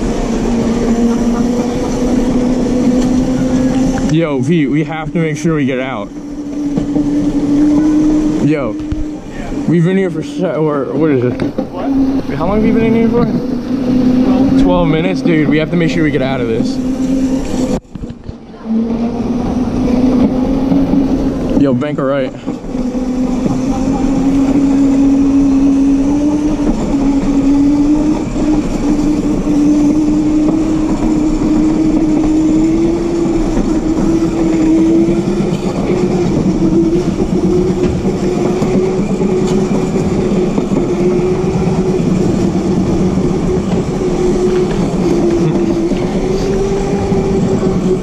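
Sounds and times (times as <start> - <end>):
electric motor whining: 0.0 - 48.0
small wheels rumbling on tiles: 0.0 - 48.0.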